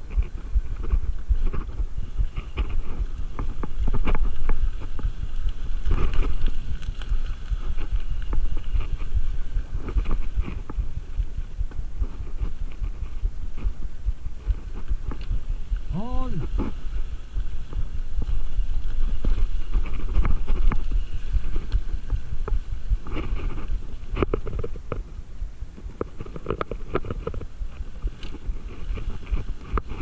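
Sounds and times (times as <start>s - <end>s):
bike rattling over bumps: 0.0s - 30.0s.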